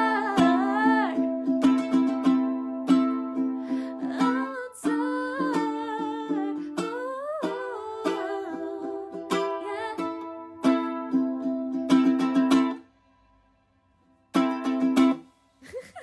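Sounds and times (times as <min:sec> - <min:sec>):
plucked string notes: 0:00.0 - 0:12.9, 0:14.3 - 0:15.3.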